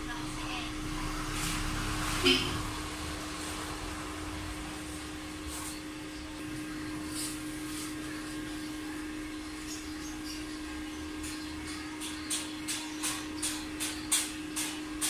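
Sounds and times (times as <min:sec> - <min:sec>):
welding machine hum: 0:00.0 - 0:15.0.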